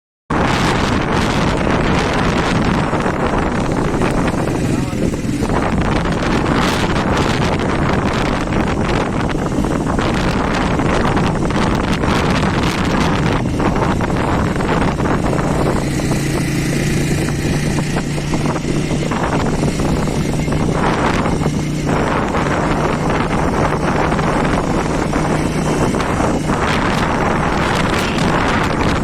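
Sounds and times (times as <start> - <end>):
wind buffeting microphone: 0.3 - 29.0.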